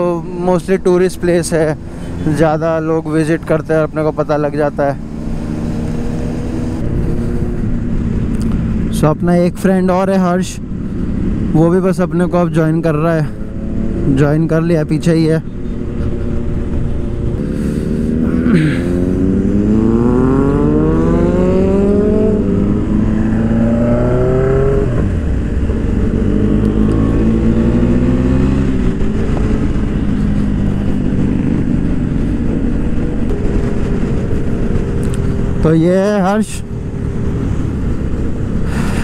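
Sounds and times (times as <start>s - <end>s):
motorcycle engine accelerating: 0.0s - 9.0s, 10.7s - 39.0s.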